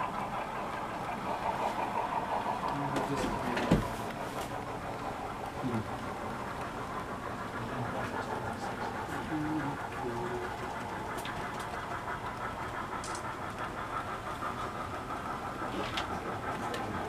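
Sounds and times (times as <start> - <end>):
model train rumbling and clicking: 0.0 - 17.0.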